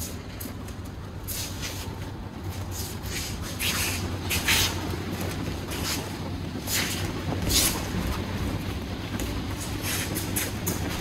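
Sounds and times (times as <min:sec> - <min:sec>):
steady low rumble: 0:00.0 - 0:11.0
swishing rustles of movement: 0:00.0 - 0:11.0.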